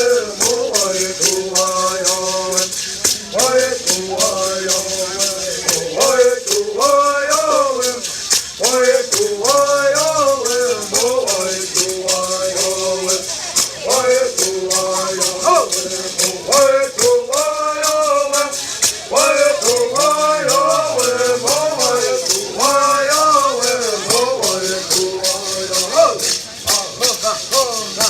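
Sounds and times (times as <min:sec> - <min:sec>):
gourd rattles shaking: 0:00.0 - 0:28.0
person chanting songs: 0:00.0 - 0:28.0.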